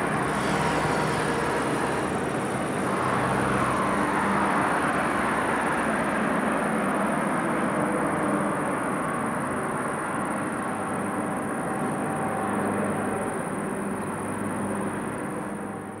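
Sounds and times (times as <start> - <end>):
distant jet engines running: 0.0 - 16.0.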